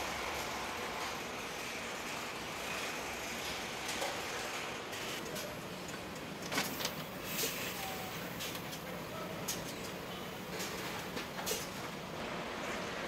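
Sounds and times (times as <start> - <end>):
factory machinery hum and hiss: 0.0 - 13.0.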